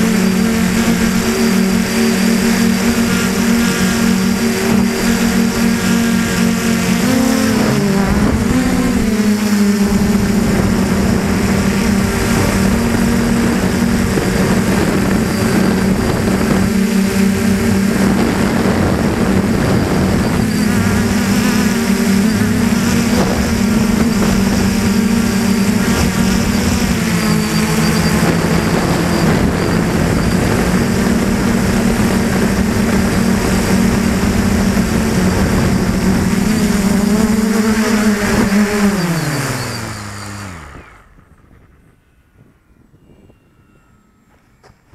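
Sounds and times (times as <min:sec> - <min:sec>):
drone motors buzzing: 0:00.0 - 0:44.9.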